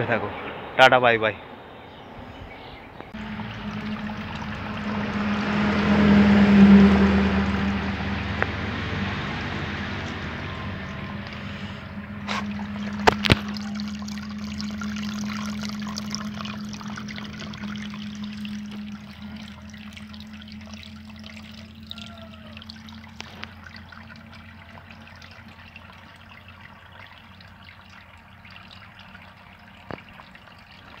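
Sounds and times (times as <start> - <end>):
low hum: 1.4 - 31.0
water trickling into puddle: 3.1 - 31.0.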